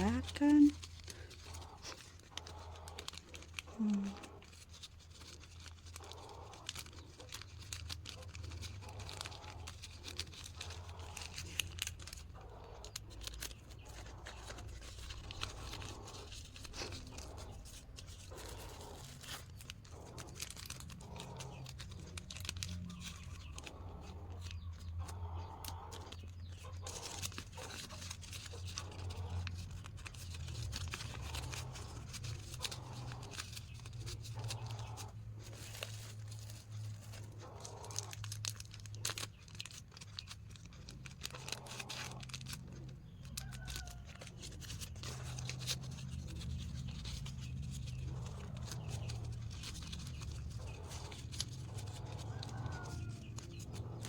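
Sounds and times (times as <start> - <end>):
plastic packets crinkling: 0.0 - 54.0.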